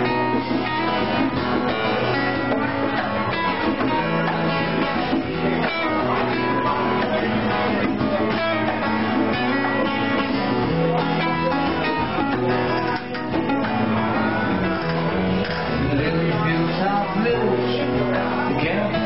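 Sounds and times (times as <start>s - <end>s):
bass line: 0.0s - 19.0s
strummed acoustic guitar: 0.0s - 19.0s.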